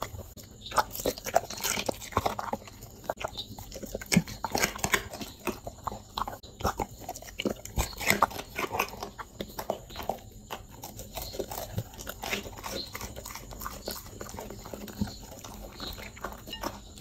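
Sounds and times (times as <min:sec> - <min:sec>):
dog crunching carrot: 0:00.0 - 0:17.0
teeth clicking: 0:00.0 - 0:17.0.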